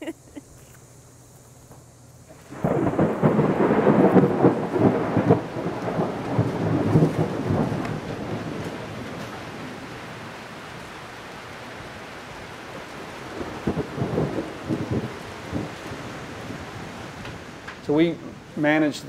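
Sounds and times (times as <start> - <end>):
thunder rumbling and crackling: 2.4 - 18.6.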